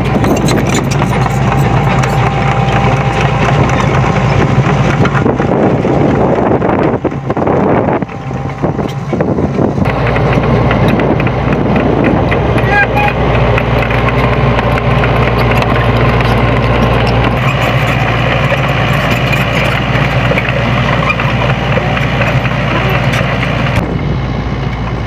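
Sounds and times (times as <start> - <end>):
clanks and rattles on gravel: 0.0 - 23.8
excavator diesel engine running: 0.0 - 25.0.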